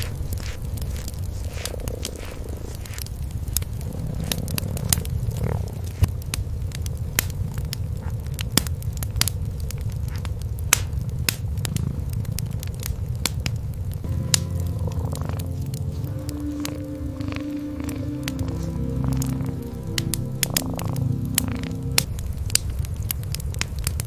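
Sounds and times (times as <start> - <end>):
cats purring: 0.0 - 8.6, 9.2 - 23.1
wood fire crackling and popping: 0.0 - 24.0.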